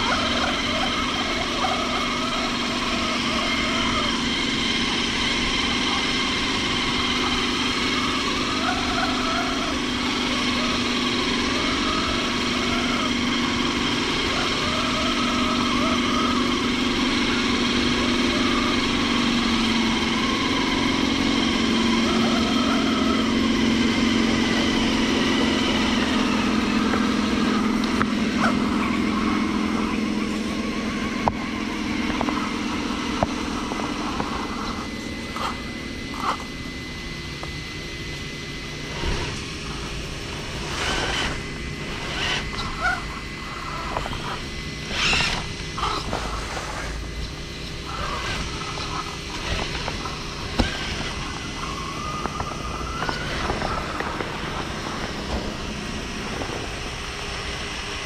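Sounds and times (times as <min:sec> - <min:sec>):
toy truck electric motor whining: 0:00.0 - 0:58.0.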